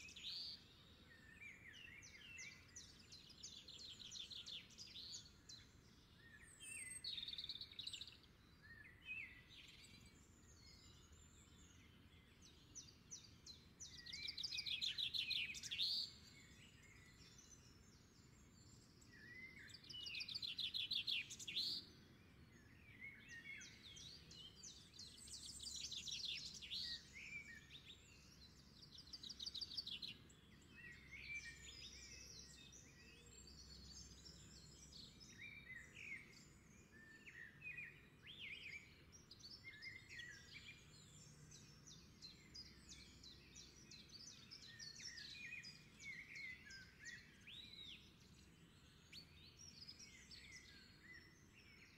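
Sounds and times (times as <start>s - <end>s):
birds singing and calling: 0.0s - 51.9s.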